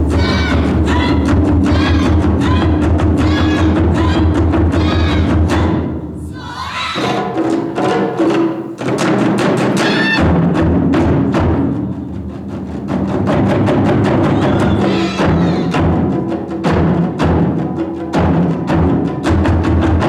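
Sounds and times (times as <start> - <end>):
taiko drums: 0.0 - 20.0.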